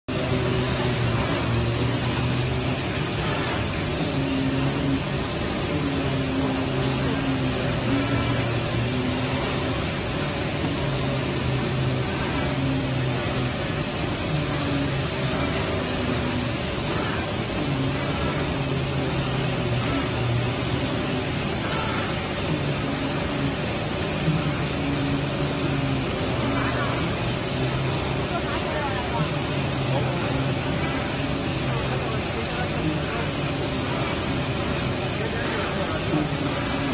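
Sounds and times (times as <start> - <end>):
cutting machine hiss and hum: 0.1 - 36.9.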